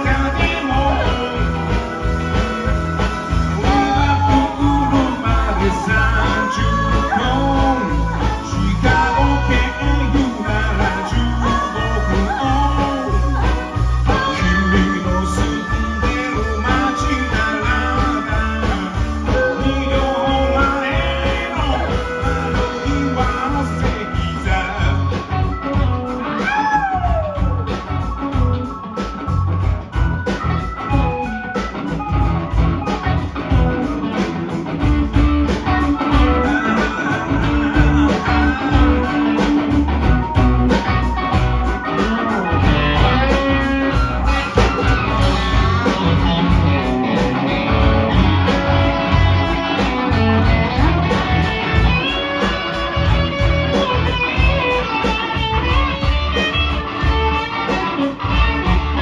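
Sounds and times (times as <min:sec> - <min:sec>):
bass and drums: 0:00.0 - 0:59.0
electric guitar lead lines: 0:00.0 - 0:59.0.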